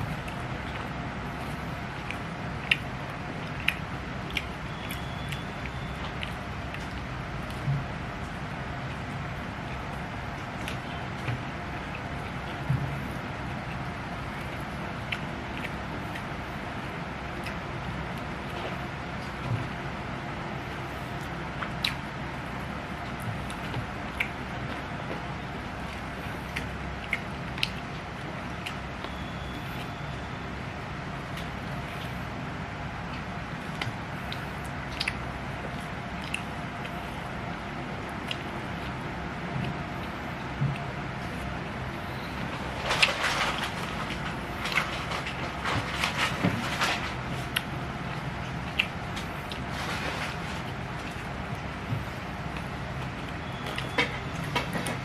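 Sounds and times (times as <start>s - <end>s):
low background hum: 0.0s - 55.0s
mouth clicks and chewing smacks: 0.0s - 55.0s.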